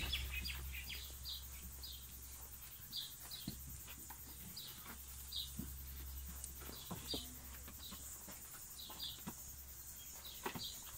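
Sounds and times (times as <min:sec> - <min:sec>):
faint low hum: 0:00.0 - 0:10.9
small bird chirping: 0:00.0 - 0:10.9.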